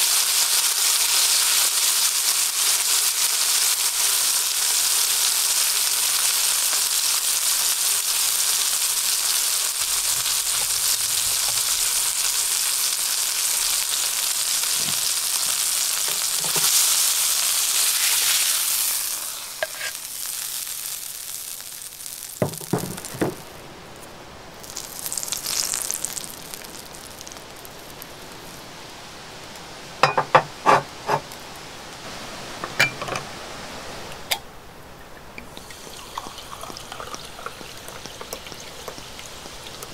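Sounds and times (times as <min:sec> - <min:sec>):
steak sizzling in a pan: 0:00.0 - 0:28.8, 0:35.6 - 0:39.9.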